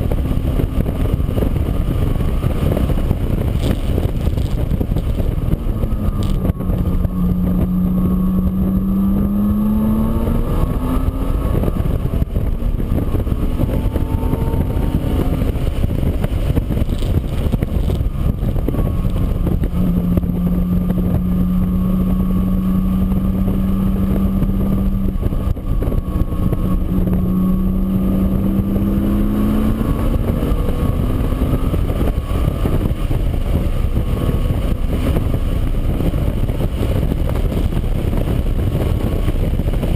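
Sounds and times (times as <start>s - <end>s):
engine running: 0.0s - 39.9s
heavy rushing noise: 0.0s - 39.9s.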